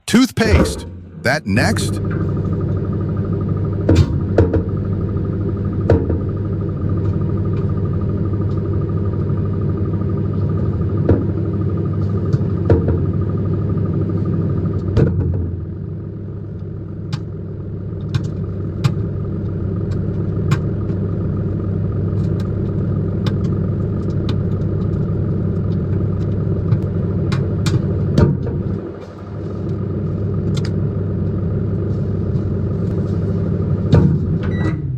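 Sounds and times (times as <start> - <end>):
microwave oven humming: 2.0 - 34.9.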